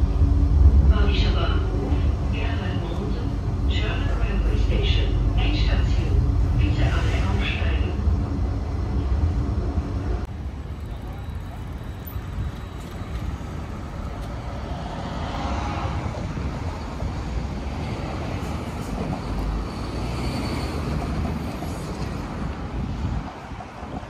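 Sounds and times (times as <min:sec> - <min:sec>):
large vehicle rumbling: 0:00.0 - 0:20.0.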